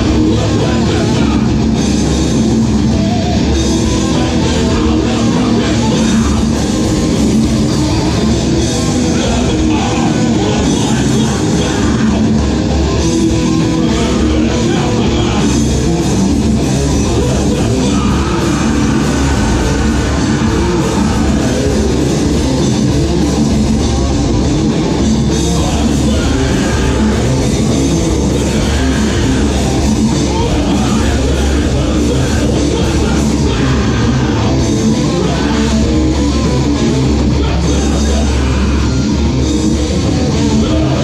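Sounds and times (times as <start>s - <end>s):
person singing into a microphone: 0.0s - 1.8s, 2.9s - 22.4s, 25.3s - 41.0s
bass guitar: 0.0s - 41.0s
drum kit: 0.0s - 41.0s
electric guitar: 0.0s - 41.0s.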